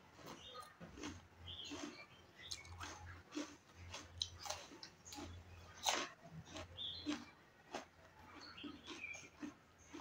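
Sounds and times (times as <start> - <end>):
wet chewing and lip smacking: 0.1 - 10.0.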